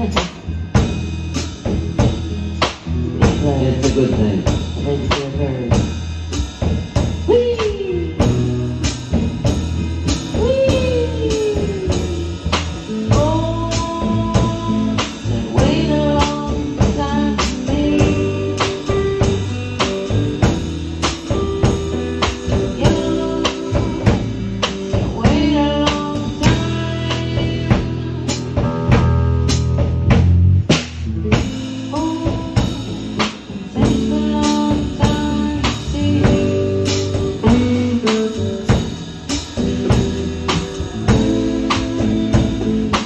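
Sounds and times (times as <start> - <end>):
blues band playing: 0.0 - 43.0
drum kit steady beat: 0.0 - 43.0
guitar: 0.0 - 43.0.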